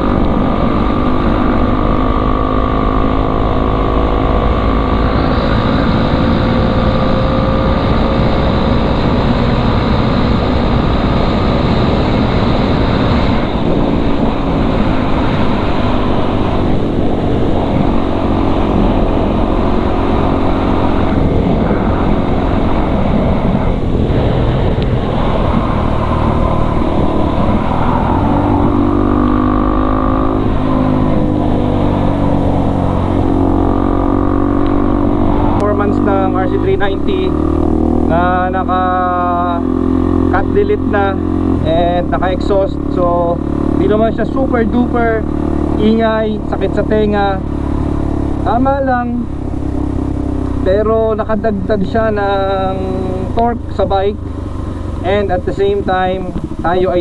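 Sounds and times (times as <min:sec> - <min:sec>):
motorcycle engine at speed: 0:00.0 - 0:57.0
wind and road noise: 0:00.0 - 0:57.0.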